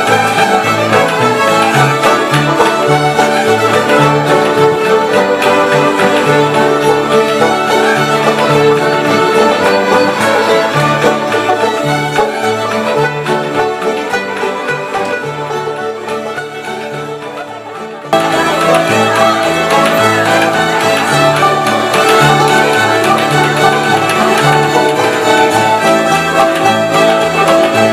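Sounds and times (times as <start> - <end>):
fiddles playing a tune: 0.0 - 27.9.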